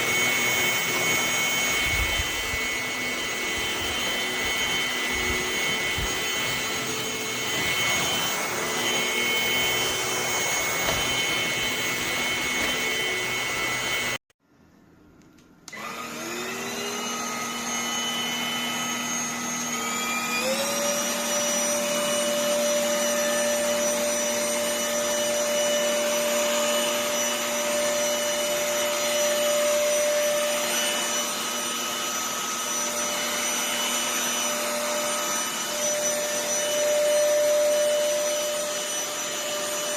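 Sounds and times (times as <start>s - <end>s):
vacuum cleaner motor whining: 0.0s - 14.2s, 15.7s - 39.9s.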